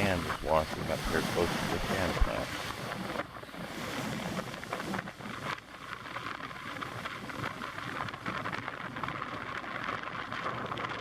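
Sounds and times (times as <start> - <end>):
surf: 0.0 - 11.0
wind: 0.0 - 11.0
wind crackling on microphone: 0.0 - 11.0.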